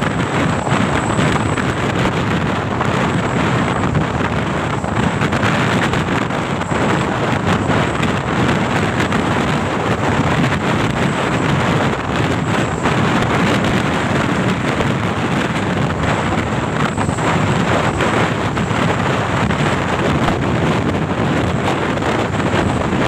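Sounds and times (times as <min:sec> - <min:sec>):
vehicle rumbling on road: 0:00.0 - 0:23.0
wind noise on microphone: 0:00.0 - 0:23.0.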